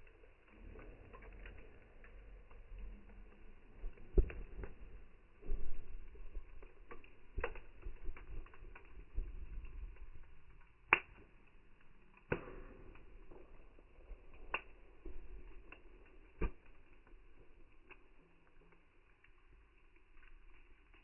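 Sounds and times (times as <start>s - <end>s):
campfire crackling: 0.0s - 21.0s
fire popping: 0.0s - 21.0s.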